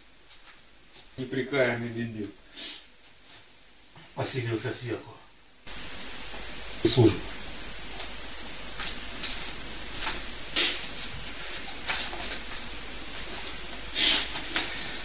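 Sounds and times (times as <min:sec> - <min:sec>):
recording noise hiss: 0:00.0 - 0:15.0.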